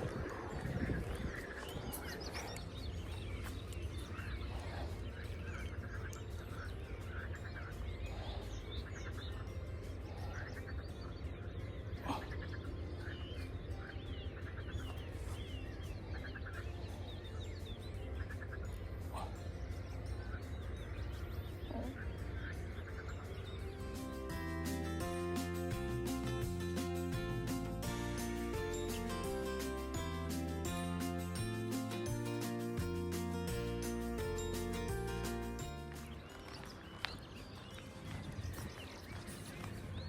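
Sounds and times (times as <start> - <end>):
small birds singing: 0.0 - 40.0.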